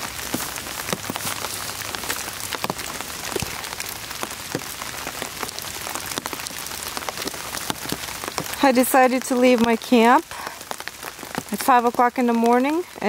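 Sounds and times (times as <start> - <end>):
rain drops tapping: 0.0 - 13.0.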